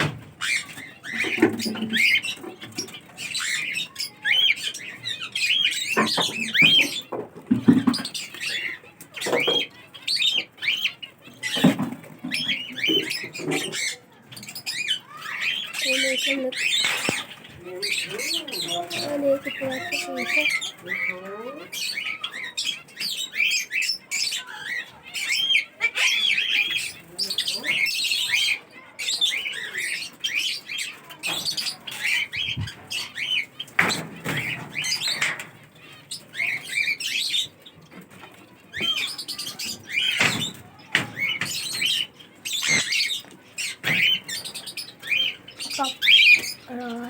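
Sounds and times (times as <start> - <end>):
birds chirping: 0.0 - 47.0
parrots squawking: 0.0 - 47.0.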